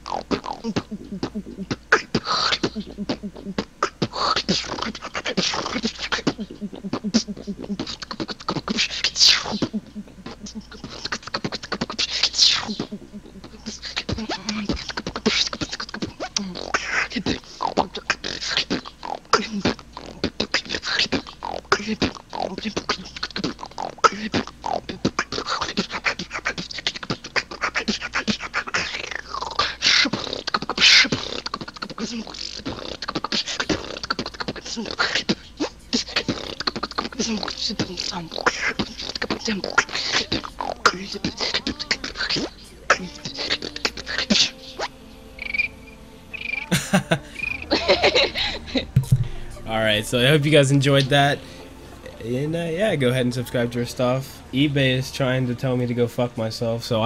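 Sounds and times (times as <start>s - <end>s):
woman beatboxing: 0.0s - 45.7s, 46.4s - 49.5s.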